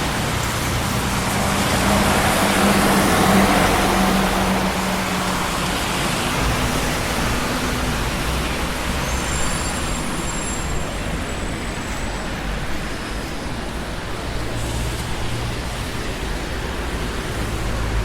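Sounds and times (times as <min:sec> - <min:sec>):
passing vehicles rushing: 0:00.0 - 0:18.0.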